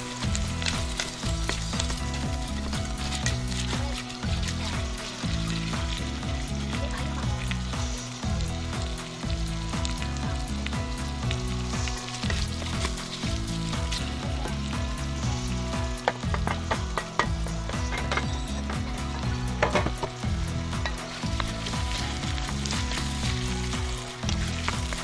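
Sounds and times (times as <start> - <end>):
vegetables sizzling in a pot: 0.0 - 25.0.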